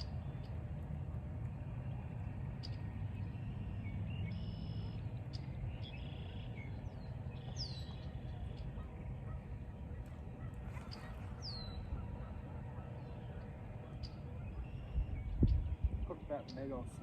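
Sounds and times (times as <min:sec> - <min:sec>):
low outdoor rumble: 0:00.0 - 0:17.0
small birds chirping: 0:01.8 - 0:17.0.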